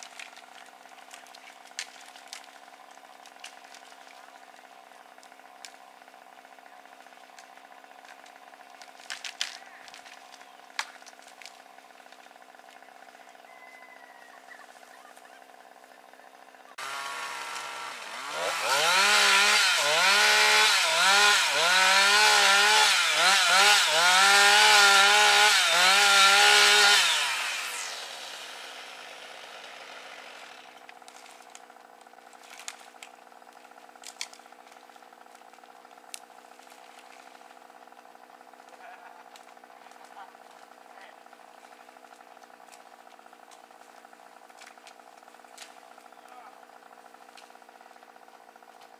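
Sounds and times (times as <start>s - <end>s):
chainsaw cutting wood: 0.0s - 13.4s, 16.4s - 48.9s.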